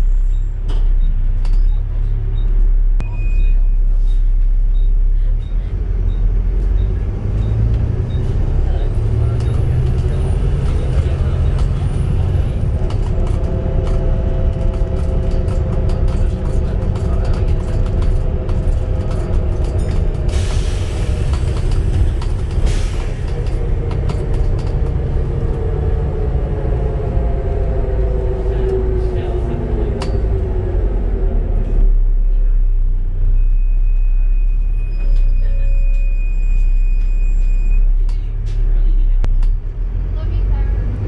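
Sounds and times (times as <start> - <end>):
rear axle whine: 0.0 - 39.8
bus drivetrain rumbling: 0.0 - 41.0.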